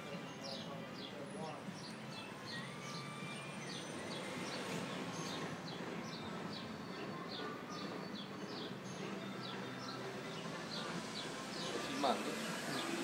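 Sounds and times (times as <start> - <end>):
bird chirping: 0.0 - 13.0
steady background noise: 0.0 - 13.0.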